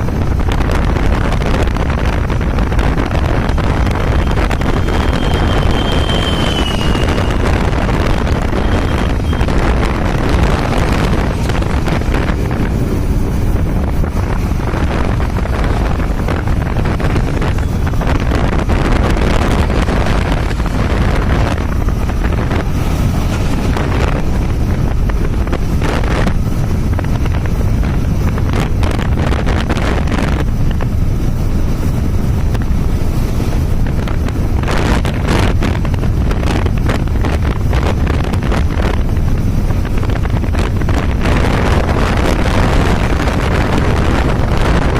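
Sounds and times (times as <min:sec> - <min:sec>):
road noise: 0:00.0 - 0:44.9
wind buffeting microphone: 0:00.0 - 0:44.9.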